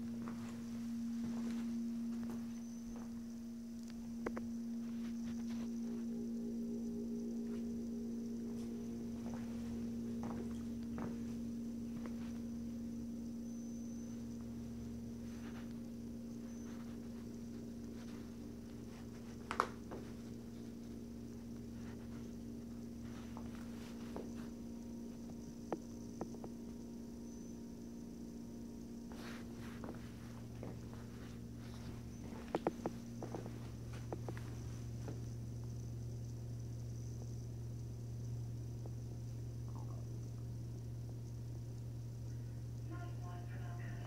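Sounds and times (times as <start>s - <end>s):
electrical hum: 0.0s - 44.0s.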